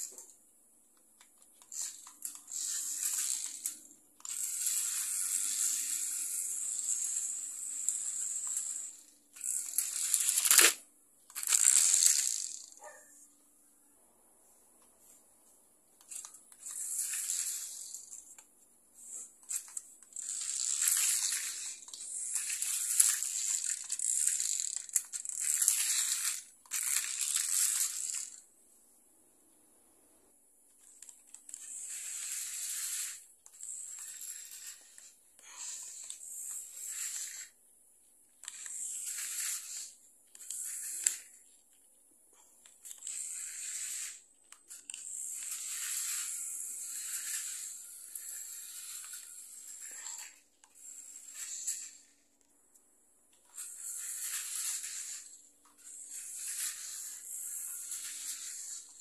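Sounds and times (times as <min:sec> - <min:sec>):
rc car motor whine: 0:01.2 - 0:13.0, 0:16.0 - 0:28.5, 0:30.8 - 0:37.6, 0:38.4 - 0:41.6, 0:42.6 - 0:52.2, 0:53.4 - 0:59.0.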